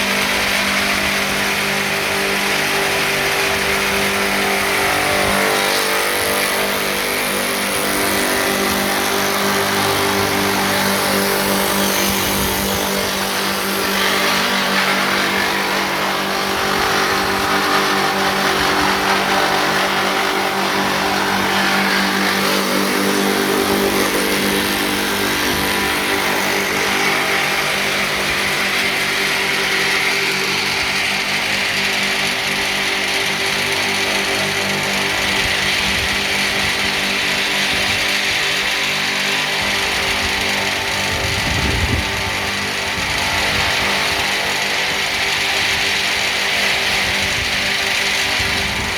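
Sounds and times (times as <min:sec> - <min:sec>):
milling machine motor hum: 0:00.0 - 0:48.9.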